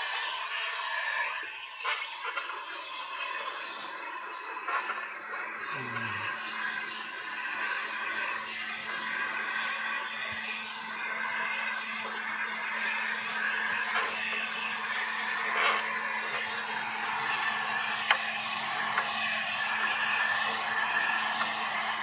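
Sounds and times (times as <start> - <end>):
heat gun blowing: 0.0 - 22.0.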